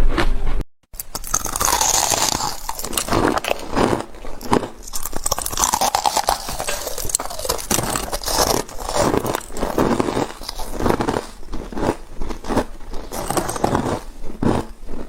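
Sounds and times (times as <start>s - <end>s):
chewing ice: 0.9s - 15.0s.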